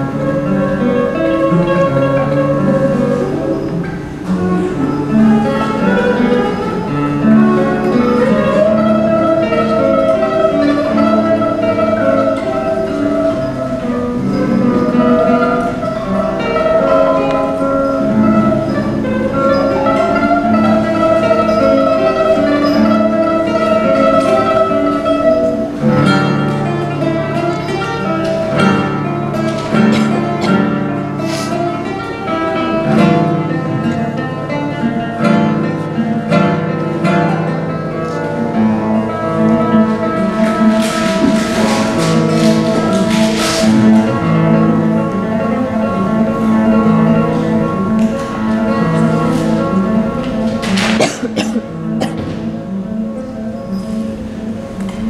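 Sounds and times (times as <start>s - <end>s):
classical guitar melody: 0.0s - 55.0s.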